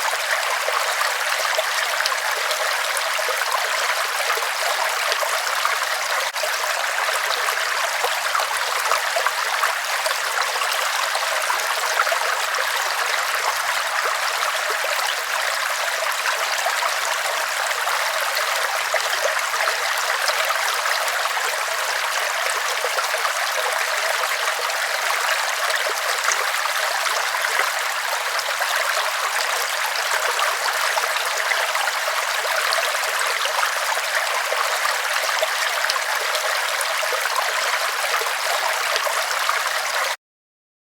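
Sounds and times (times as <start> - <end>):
river water flowing over rocks: 0.0 - 40.2.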